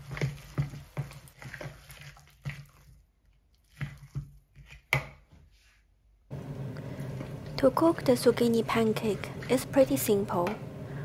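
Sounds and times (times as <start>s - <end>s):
spoon stirring wet batter: 0.0s - 5.5s, 6.8s - 10.7s.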